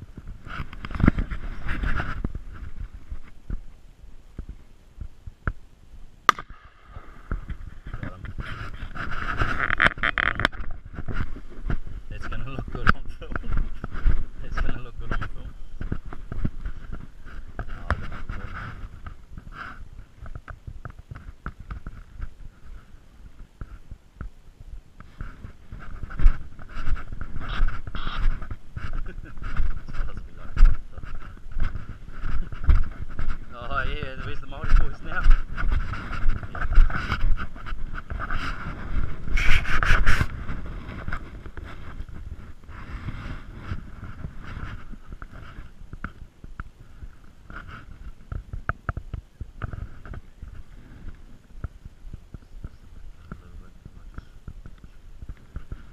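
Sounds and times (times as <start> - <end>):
rustling and scraping: 0.0 - 5.6, 6.3 - 24.4, 25.0 - 55.9
wind rumbling on microphone: 0.0 - 55.9.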